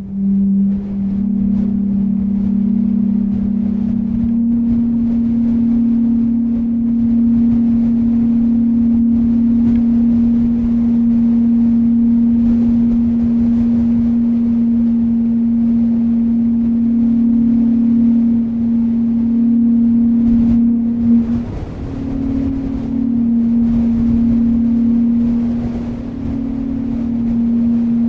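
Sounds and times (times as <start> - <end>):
low humming tone: 0.0 - 28.0
wind rumble: 0.0 - 28.0.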